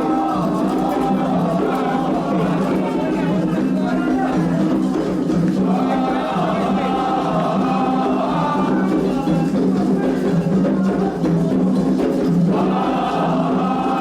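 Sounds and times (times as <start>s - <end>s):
group of voices singing: 0.0s - 14.0s
hand drums beating: 0.0s - 14.0s.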